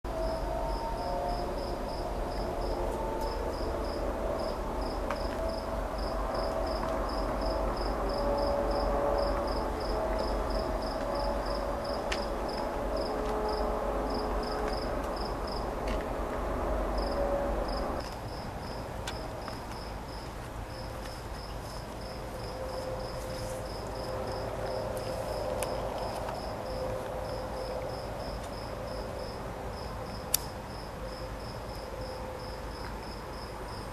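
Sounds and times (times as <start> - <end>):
low background rumble: 0.1 - 32.5
crickets chirping: 0.1 - 33.9.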